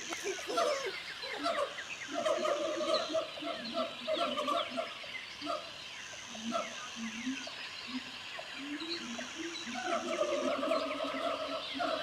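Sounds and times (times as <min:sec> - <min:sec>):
jungle chirps: 0:00.0 - 0:12.0
steady high hiss: 0:00.0 - 0:12.0.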